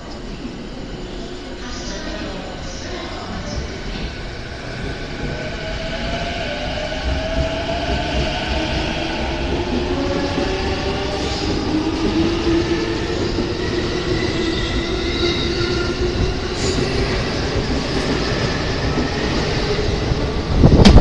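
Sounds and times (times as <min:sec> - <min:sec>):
train wheels rumbling on rail: 0:01.8 - 0:21.0.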